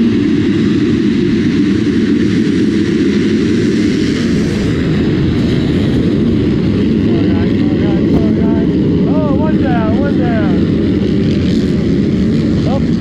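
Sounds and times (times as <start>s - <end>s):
dirt bike engines racing: 0.0s - 13.0s.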